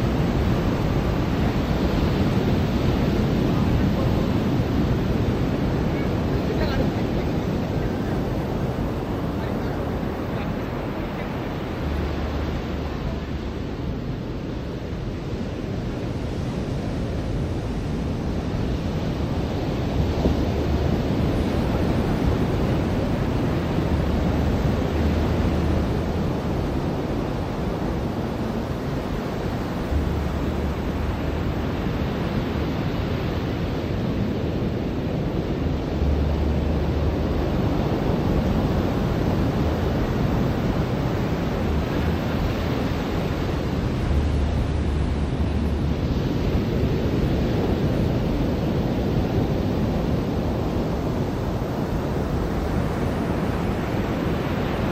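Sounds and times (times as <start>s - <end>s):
ocean surf washing onto beach: 0.0s - 54.9s
wind rumbling on microphone: 0.0s - 54.9s.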